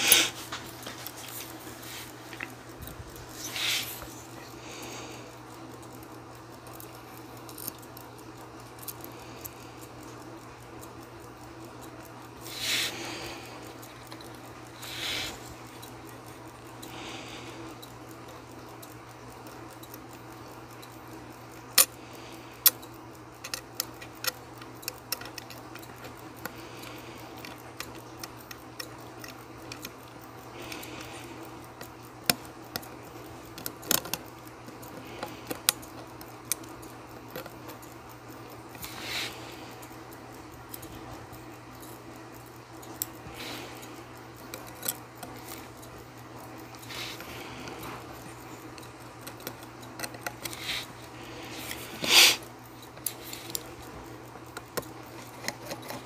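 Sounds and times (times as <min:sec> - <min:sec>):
clothes dryer humming: 0:00.0 - 0:06.3, 0:08.2 - 0:20.6, 0:23.2 - 0:56.0
tweezers ticking on watch parts: 0:00.0 - 0:56.0.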